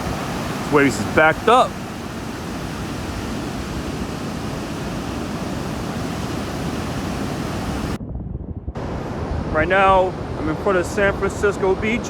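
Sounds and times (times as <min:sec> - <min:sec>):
surf breaking on sand beach: 0:00.0 - 0:08.0, 0:08.8 - 0:12.0.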